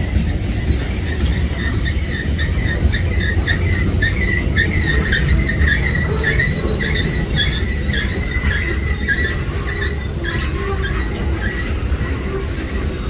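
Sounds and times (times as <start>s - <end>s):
high wheel squeal: 0.0s - 13.0s
train wheels rumbling on rail: 0.0s - 13.0s.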